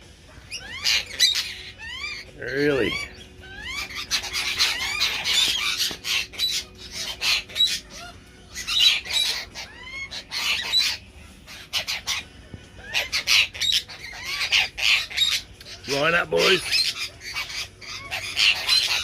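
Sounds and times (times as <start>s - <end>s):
birds squawking and screeching: 0.0s - 19.0s.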